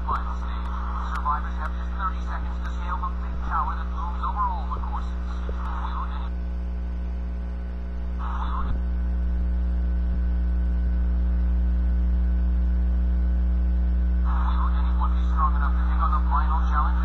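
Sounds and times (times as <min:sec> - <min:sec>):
audio from small speaker: 0:00.0 - 0:17.0
electrical hum: 0:00.0 - 0:17.0.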